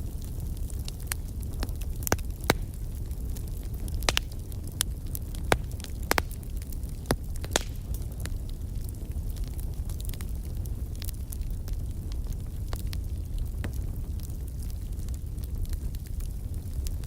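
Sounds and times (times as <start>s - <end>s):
fire crackling: 0.0s - 17.0s
low rumble of burning: 0.0s - 17.0s.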